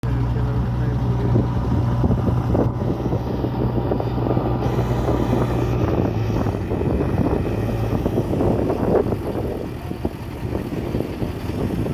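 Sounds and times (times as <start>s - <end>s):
heavy vehicle engine running: 0.0s - 11.9s.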